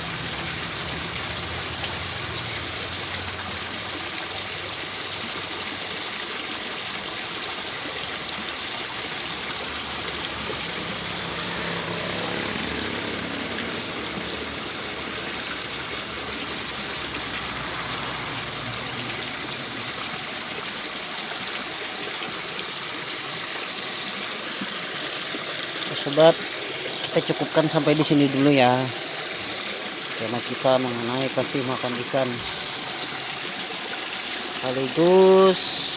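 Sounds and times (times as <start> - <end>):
water pouring into pond: 0.0 - 35.9.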